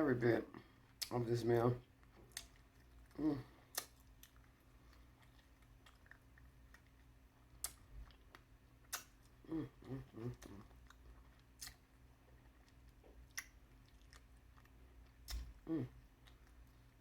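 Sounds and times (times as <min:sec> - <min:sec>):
sharp clicks and cracks of eating: 0:00.9 - 0:01.2, 0:01.8 - 0:17.0.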